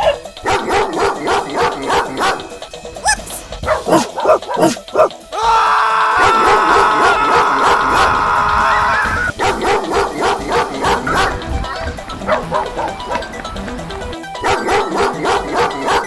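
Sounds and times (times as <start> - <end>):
playful bouncy music: 0.0 - 16.0.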